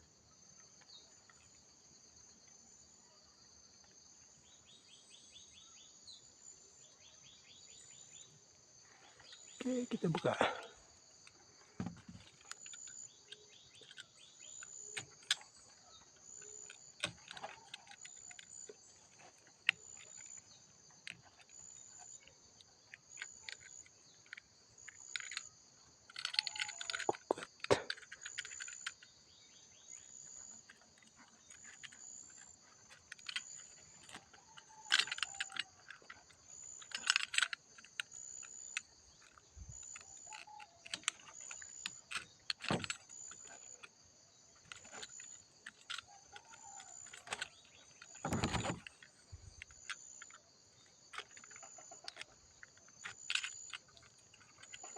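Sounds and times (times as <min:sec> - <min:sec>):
insects chorus: 0:00.0 - 0:54.9.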